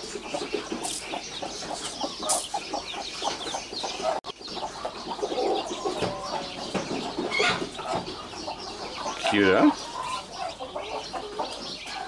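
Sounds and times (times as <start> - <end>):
chicks peeping: 0.0 - 12.0
hen clucking: 0.0 - 12.0.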